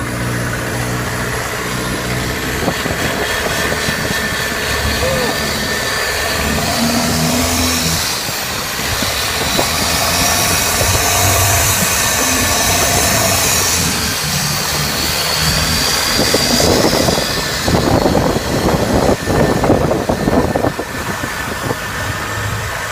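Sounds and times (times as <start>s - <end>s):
boat engine running: 0.0s - 22.9s
dense rushing noise: 0.0s - 22.9s.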